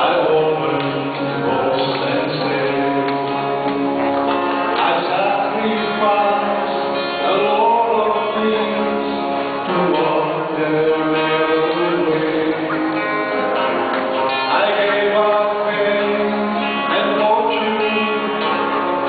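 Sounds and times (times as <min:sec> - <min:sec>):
two men singing gospel duet: 0:00.0 - 0:03.4, 0:04.8 - 0:12.8, 0:14.5 - 0:18.6
guitars: 0:00.0 - 0:19.0.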